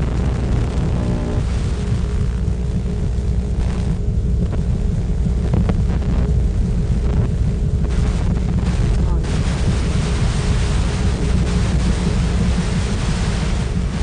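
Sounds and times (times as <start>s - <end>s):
low rumbling drone: 0.0s - 14.0s.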